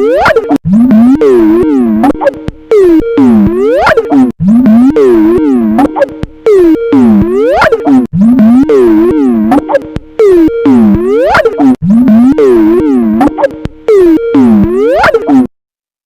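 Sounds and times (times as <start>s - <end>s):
warped synthetic ringtone: 0.0s - 15.5s.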